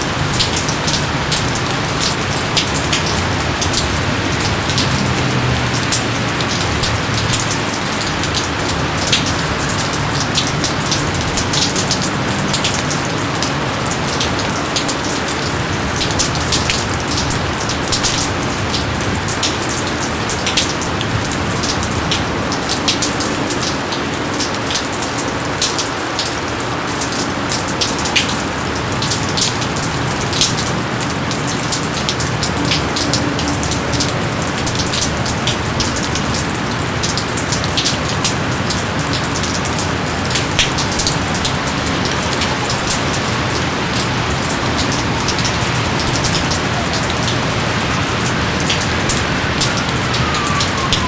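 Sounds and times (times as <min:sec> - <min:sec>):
heavy rain hiss: 0:00.0 - 0:51.0
raindrops striking leaves: 0:00.0 - 0:51.0.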